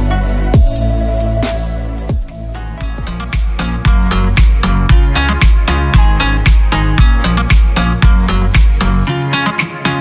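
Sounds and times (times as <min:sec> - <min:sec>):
music with heavy beat: 0:00.0 - 0:10.0.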